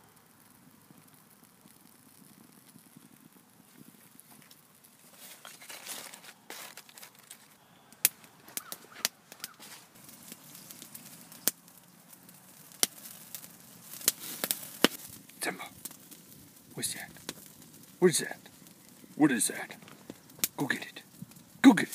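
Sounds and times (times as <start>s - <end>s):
burning wood popping: 0.0s - 21.9s
campfire crackling: 0.0s - 21.9s.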